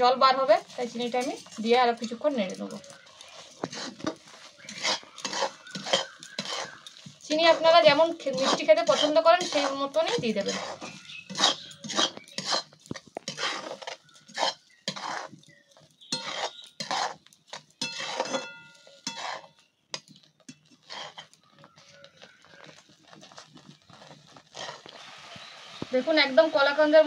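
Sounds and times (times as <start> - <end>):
spatula scraping a metal pan: 0.0 - 26.6.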